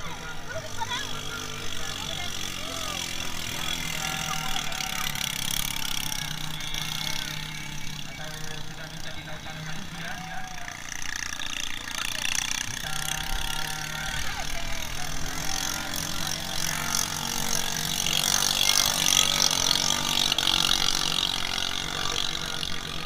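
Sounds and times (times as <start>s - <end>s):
crowd voices: 0.0s - 23.0s
racing boat engine: 0.0s - 23.0s.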